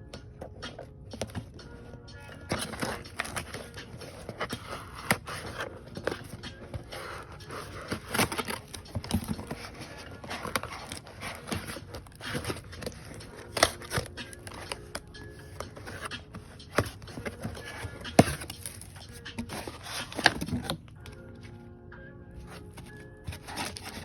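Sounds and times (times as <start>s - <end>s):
packaging rustling and tearing: 2.4s - 20.9s, 22.5s - 24.0s.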